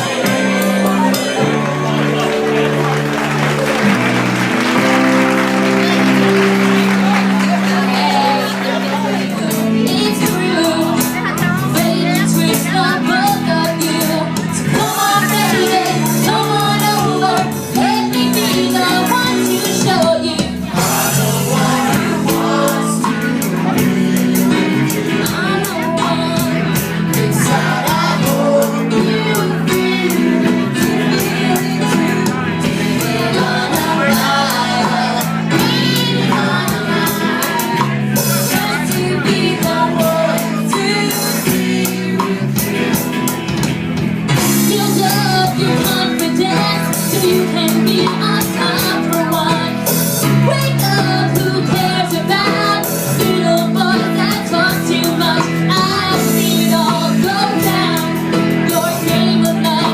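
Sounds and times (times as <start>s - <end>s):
person singing: 0.0s - 43.4s, 44.3s - 59.9s
live band music: 0.0s - 59.9s.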